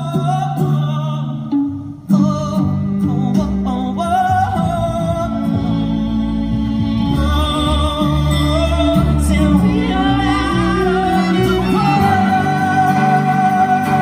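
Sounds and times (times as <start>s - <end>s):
moving bass line: 0.0s - 14.0s.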